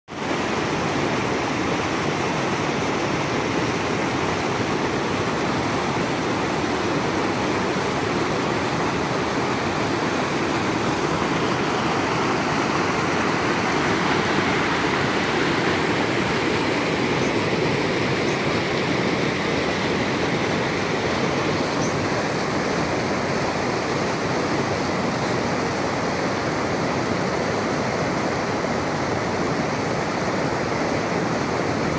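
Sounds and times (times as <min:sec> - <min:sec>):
stream rushing over boulders: 0:00.1 - 0:31.9.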